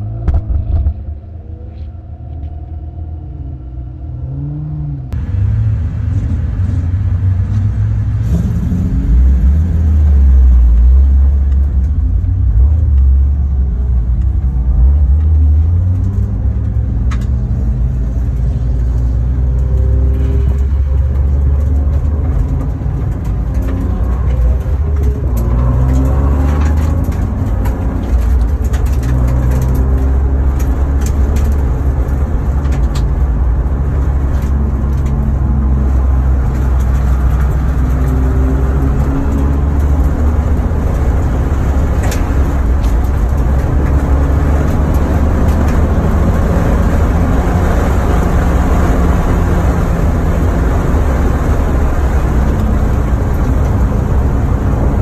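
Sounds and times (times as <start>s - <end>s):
car engine revving up: 0.0s - 55.0s.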